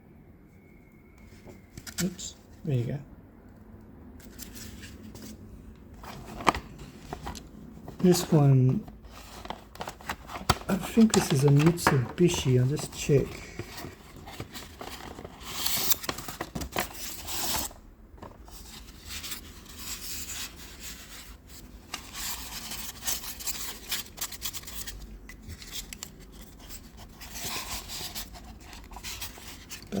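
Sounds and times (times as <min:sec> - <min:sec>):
packaging rubbing and rustling: 0:04.2 - 0:30.0.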